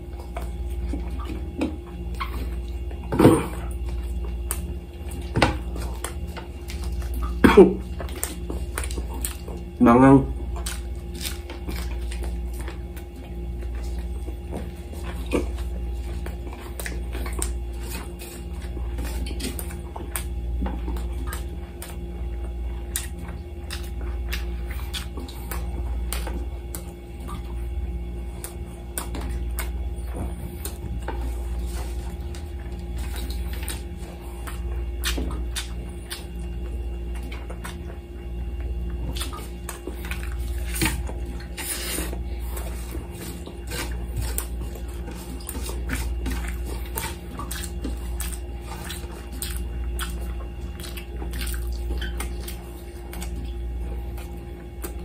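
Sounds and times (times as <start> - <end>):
chewing and mouth smacks: 0.0 - 55.0
steady low hum: 0.0 - 55.0.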